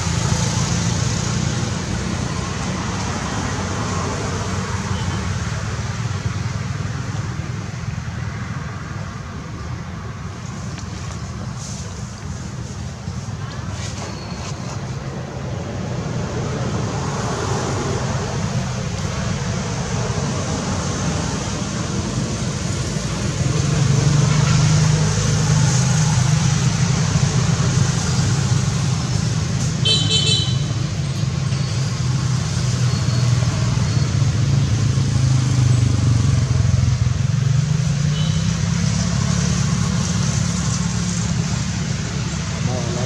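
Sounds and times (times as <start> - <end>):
vehicle engine humming: 0.0 - 43.0.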